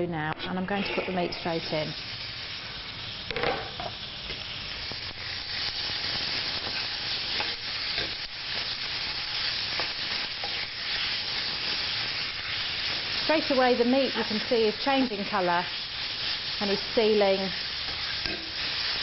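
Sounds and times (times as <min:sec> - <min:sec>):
spatula scraping a wok: 0:00.4 - 0:02.0, 0:05.2 - 0:19.0
meat sizzling in a wok: 0:00.5 - 0:19.0.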